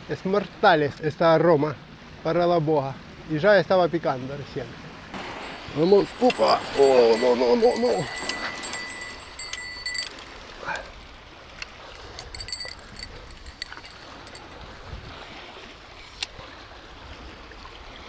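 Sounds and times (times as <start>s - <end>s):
river water at the bank: 0.0s - 18.0s.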